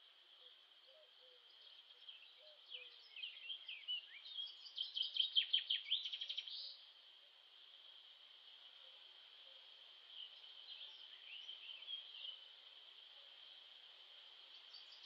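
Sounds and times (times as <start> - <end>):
high-pitched background hiss: 0.0 - 15.0
songbird singing: 0.0 - 15.0.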